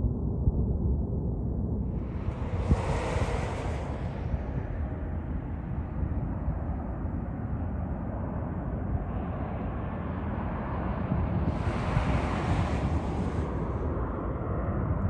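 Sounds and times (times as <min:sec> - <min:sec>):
wind on microphone: 0:01.4 - 0:15.0
distant jet rumble: 0:01.9 - 0:15.0.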